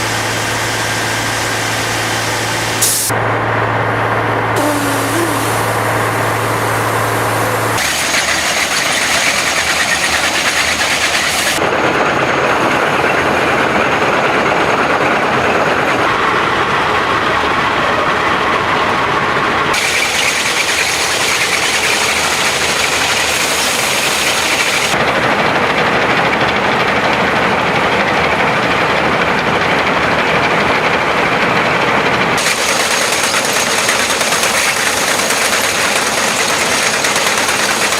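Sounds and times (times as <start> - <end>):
railway machine engine noise: 0.0 - 37.9.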